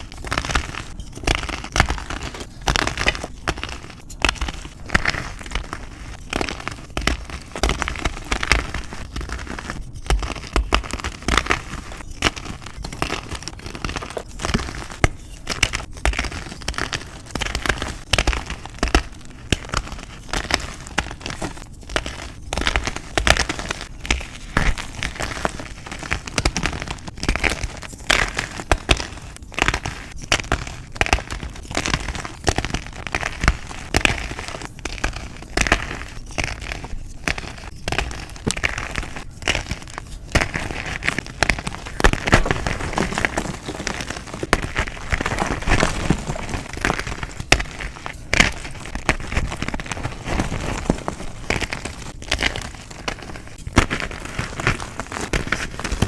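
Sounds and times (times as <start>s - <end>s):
chalk crunching and crackling: 0.0s - 56.0s.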